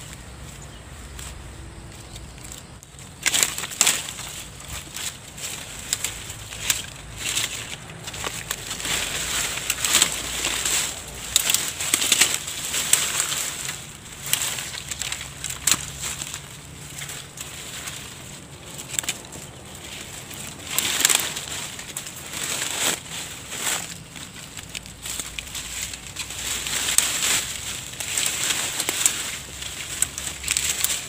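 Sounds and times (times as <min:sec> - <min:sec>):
dry grass and twigs crackling: 0:00.0 - 0:31.0.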